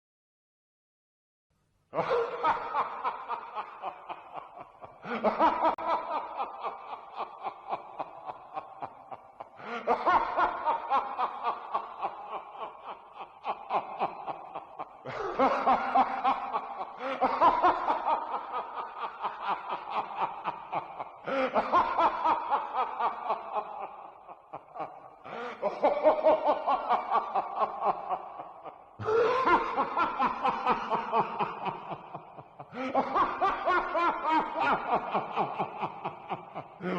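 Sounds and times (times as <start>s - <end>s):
villainous laugh: 2.0s - 36.9s.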